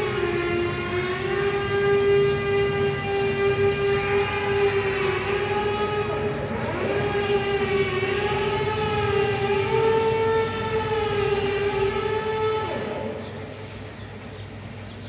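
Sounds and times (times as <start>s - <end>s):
high wailing siren: 0.0s - 14.2s.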